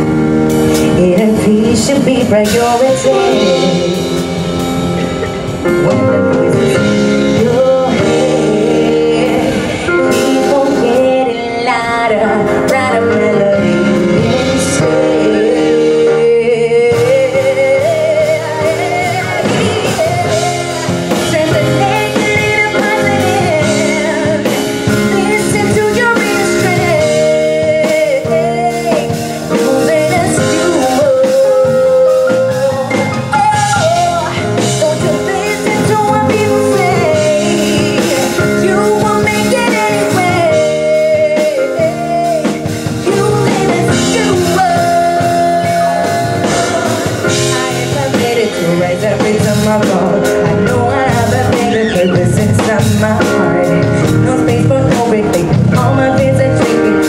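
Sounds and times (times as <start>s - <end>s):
drum kit: 0.0s - 57.0s
electric bass guitar: 0.0s - 57.0s
keyboard chords: 0.0s - 57.0s
woman singing into a microphone: 0.0s - 57.0s.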